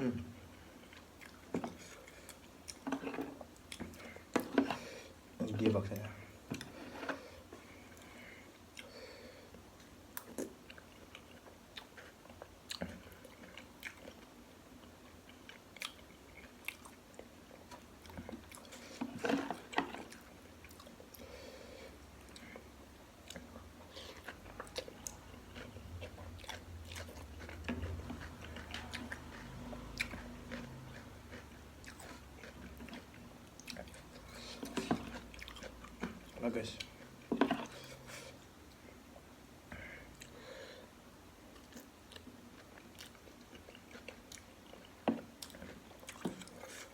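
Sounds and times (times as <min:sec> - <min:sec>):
person chewing: 0:00.1 - 0:05.1, 0:06.4 - 0:40.8, 0:41.4 - 0:46.9.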